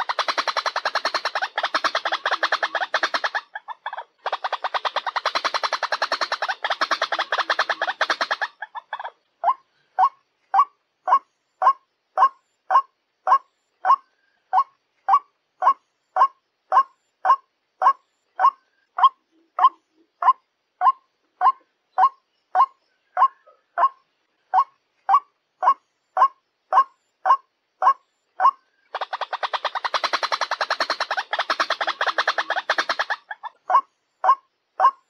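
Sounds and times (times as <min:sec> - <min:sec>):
waterhen call: 0:00.0 - 0:35.0.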